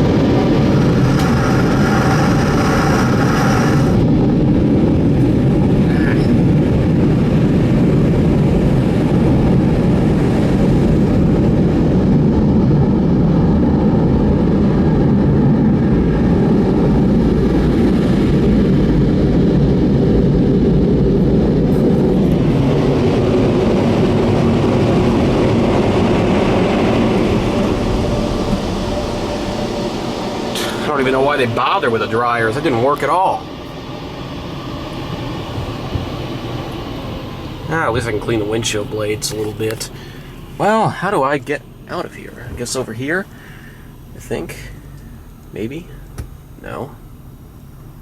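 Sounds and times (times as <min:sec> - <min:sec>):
car wash dryer blowers roaring: 0:00.0 - 0:48.0.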